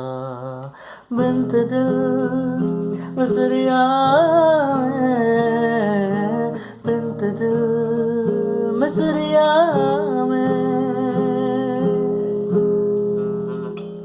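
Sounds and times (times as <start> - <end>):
wordless singing: 0.0 - 12.6
acoustic guitar playing: 0.0 - 14.0.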